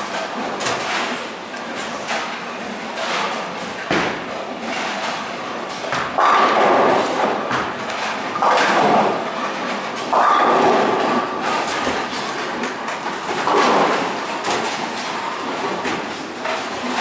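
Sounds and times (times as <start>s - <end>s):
bowling pins clattering: 0.2s - 17.0s.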